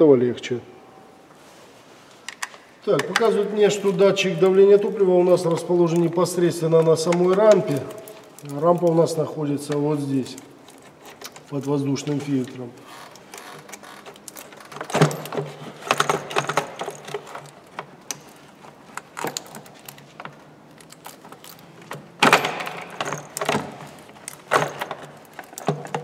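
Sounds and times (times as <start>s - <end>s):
plastic car parts clicking and rattling: 2.3s - 26.0s.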